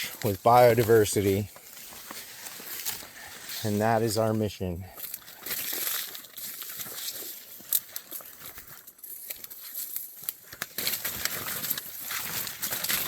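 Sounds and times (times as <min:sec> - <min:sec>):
marsh plants rustling: 0:00.0 - 0:13.0.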